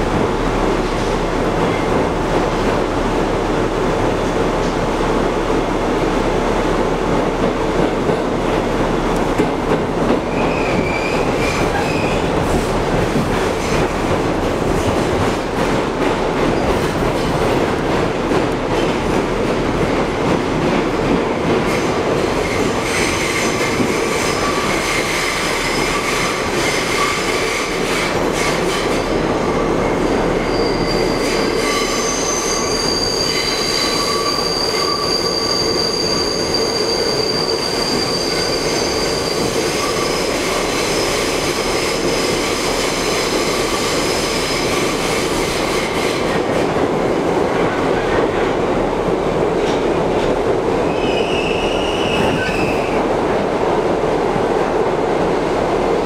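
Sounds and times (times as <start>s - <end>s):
subway wheels rumbling on rail: 0.0s - 56.0s.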